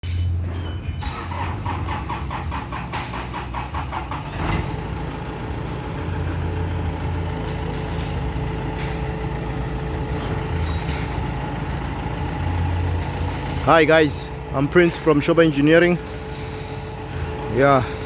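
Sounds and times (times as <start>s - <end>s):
large vehicle engine idling: 0.0s - 18.0s.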